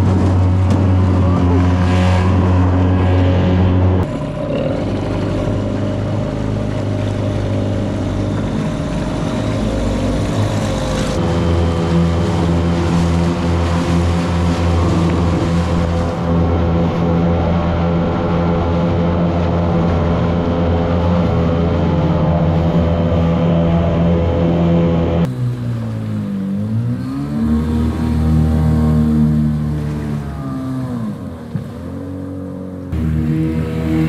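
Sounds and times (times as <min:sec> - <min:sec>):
outboard motors droning: 0:00.0 - 0:34.0
rushing water: 0:00.0 - 0:34.0.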